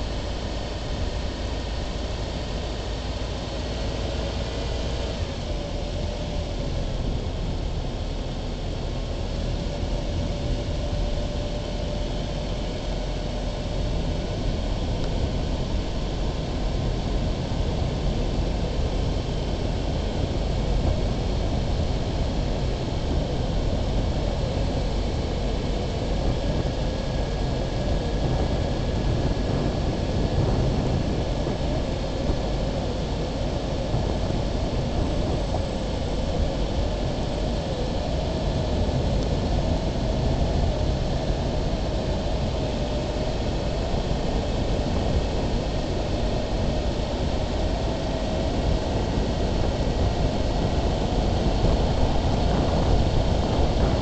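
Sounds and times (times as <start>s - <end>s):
faint wavering whine: 0.0s - 54.0s
vehicle rolling on asphalt: 0.0s - 54.0s.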